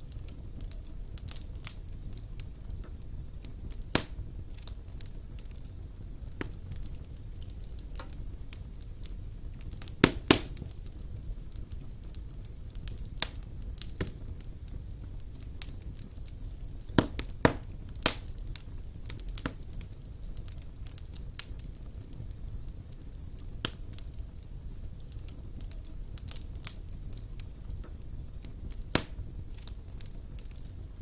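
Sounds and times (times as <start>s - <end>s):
burning logs popping and crackling: 0.0s - 31.0s
fire flames rumbling: 0.0s - 31.0s.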